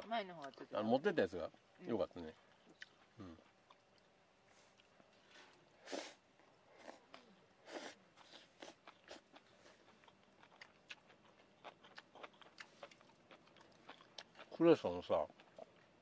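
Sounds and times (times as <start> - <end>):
crunchy chewing: 2.2 - 16.0.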